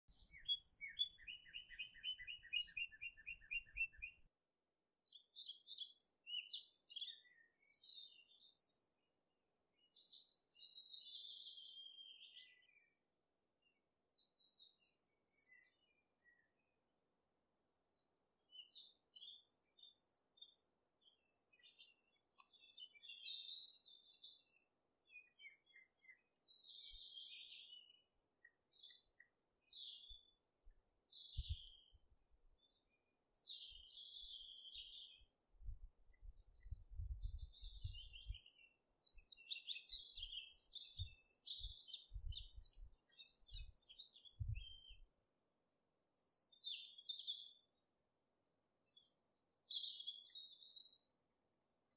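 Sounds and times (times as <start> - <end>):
small birds chirping: 0.0 - 4.4, 5.0 - 17.0, 17.7 - 51.9.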